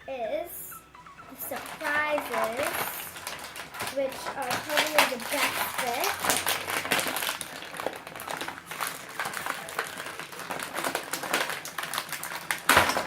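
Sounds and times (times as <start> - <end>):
packaging crinkling and rustling: 1.3 - 13.0.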